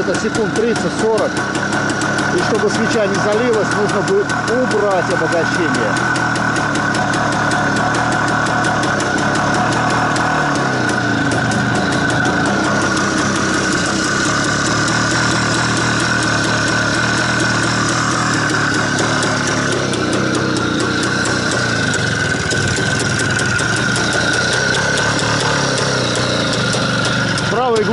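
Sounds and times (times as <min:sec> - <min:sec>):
two-stroke motorcycle engine running: 0:00.0 - 0:27.9.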